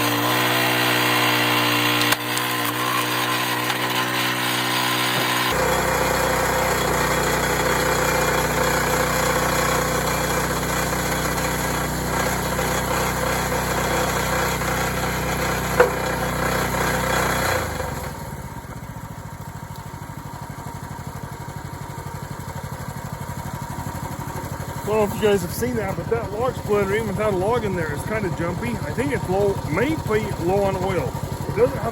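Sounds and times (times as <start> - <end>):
small gasoline engine running: 0.0 - 31.9.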